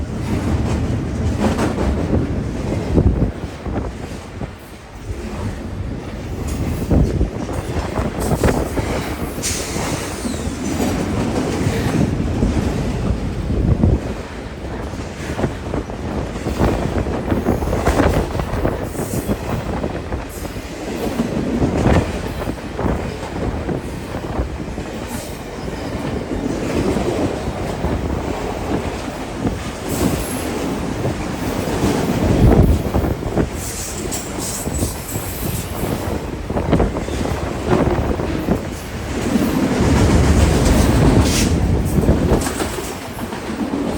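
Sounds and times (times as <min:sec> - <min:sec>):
freight train cars rolling past: 0:00.0 - 0:43.9
steel wheels on rails: 0:00.0 - 0:43.9.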